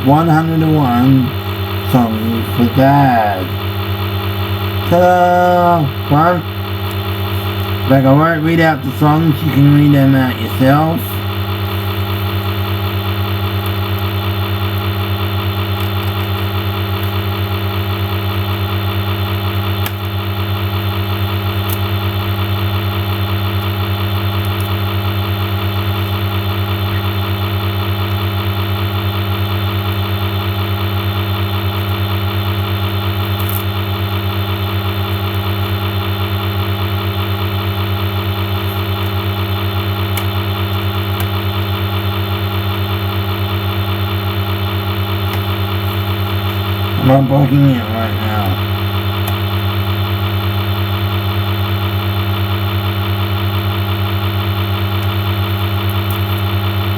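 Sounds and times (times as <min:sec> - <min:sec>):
low-pitched machine hum: 0:00.0 - 0:56.9.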